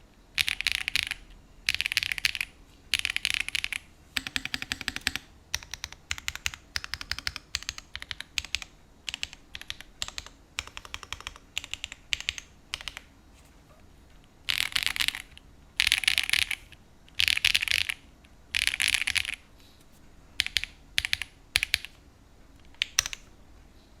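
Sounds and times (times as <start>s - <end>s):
typing on mechanical keyboard: 0.4s - 13.1s, 14.4s - 19.4s, 20.4s - 21.9s, 22.6s - 23.3s.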